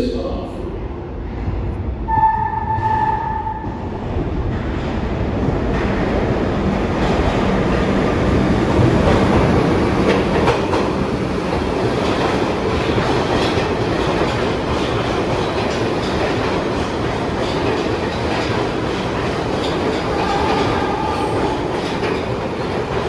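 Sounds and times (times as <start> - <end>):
subway wheels rumbling on track: 0.0 - 23.0.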